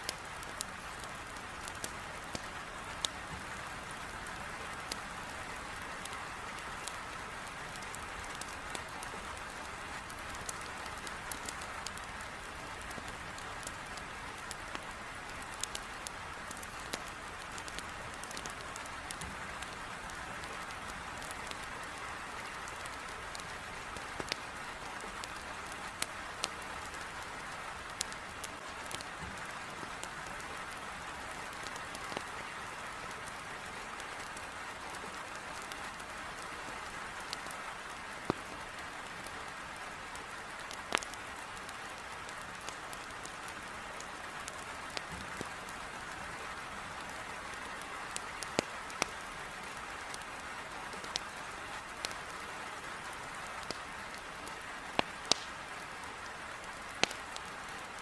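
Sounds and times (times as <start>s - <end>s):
heavy rain on a window: 0.0s - 58.0s
wood fire crackling: 0.0s - 58.0s.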